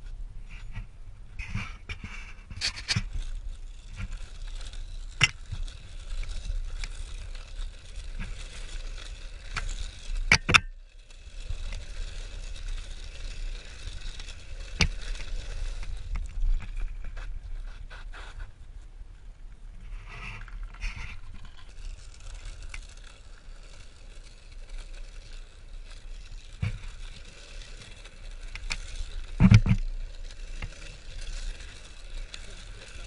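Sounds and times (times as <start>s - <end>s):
rolling rumble of tyres on dirt: 0.0s - 33.0s.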